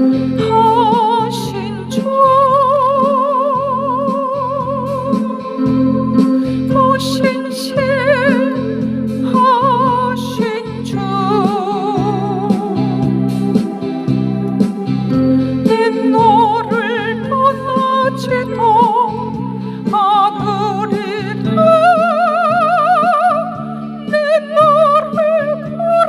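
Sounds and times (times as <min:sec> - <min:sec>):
electronic keyboard hymn melody: 0:00.0 - 0:26.0.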